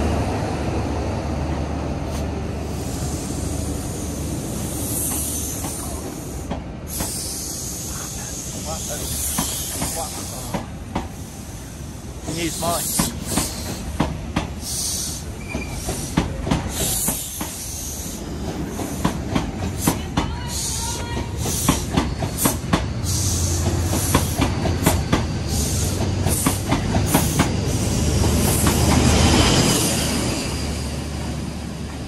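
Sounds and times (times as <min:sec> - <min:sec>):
wheel squeal and hiss: 0:02.1 - 0:13.9, 0:14.6 - 0:19.2, 0:19.8 - 0:31.0
train wheels clicking over rail joints: 0:03.9 - 0:29.9.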